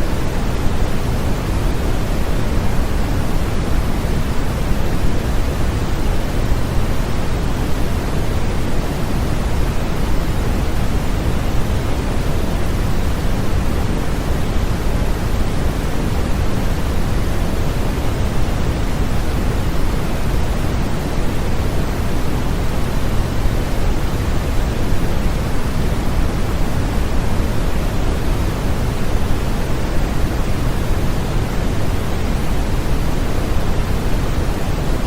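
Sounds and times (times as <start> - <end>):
pink noise hiss: 0.0 - 35.0.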